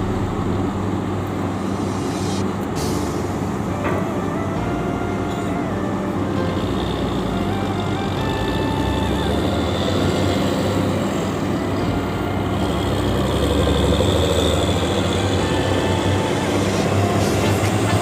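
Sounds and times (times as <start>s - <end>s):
heavy truck engines rumbling: 0.0s - 18.0s.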